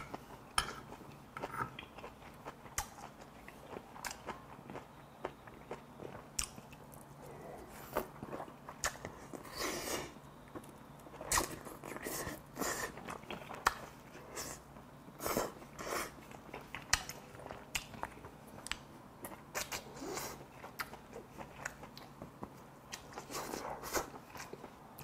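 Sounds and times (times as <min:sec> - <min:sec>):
man chewing food: 0:00.0 - 0:25.0.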